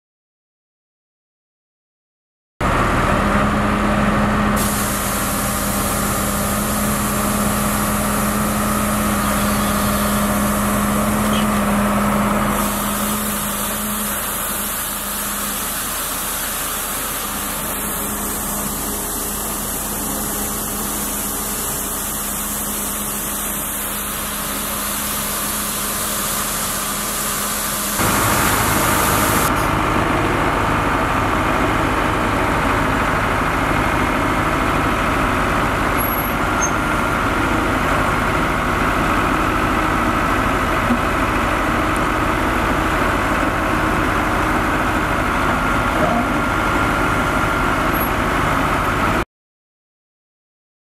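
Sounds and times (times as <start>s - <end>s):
street sweeper truck running: 2.6s - 49.2s.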